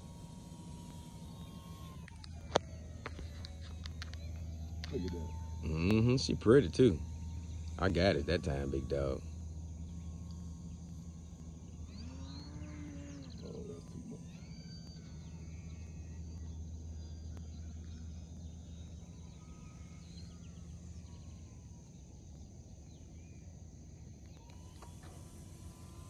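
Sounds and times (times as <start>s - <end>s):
low drawn-out call: 0.0s - 21.4s
faint chirps: 0.0s - 26.0s
high-pitched insect drone: 0.0s - 26.0s
low steady hum: 0.0s - 26.0s.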